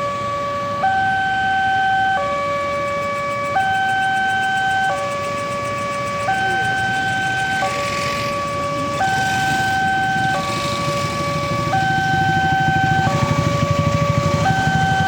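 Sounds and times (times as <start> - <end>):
two-tone crossing alarm: 0.0 - 15.0.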